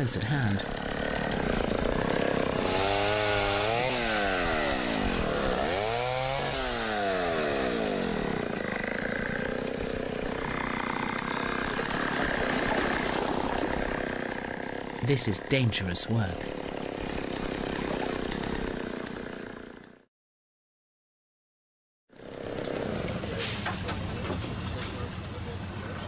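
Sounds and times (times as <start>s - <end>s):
chainsaw cutting a log: 0.2s - 20.1s, 22.1s - 23.8s.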